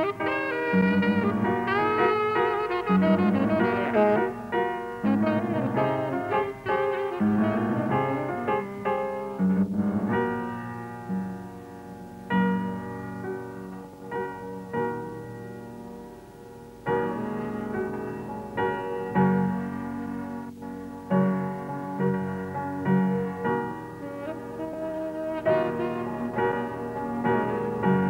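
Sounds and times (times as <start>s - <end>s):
slow piano chords: 0.0s - 28.0s.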